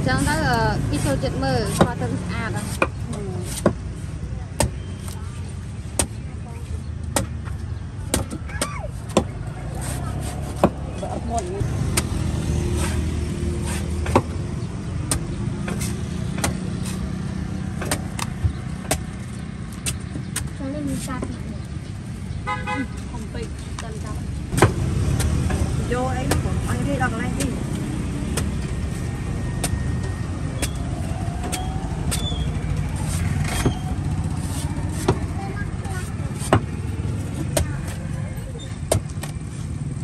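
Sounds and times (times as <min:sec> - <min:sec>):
street traffic rumble: 0:00.0 - 0:40.0
cleaver chopping coconut husk: 0:00.1 - 0:03.9, 0:04.5 - 0:05.2, 0:05.8 - 0:06.4, 0:07.0 - 0:21.4, 0:24.5 - 0:39.8.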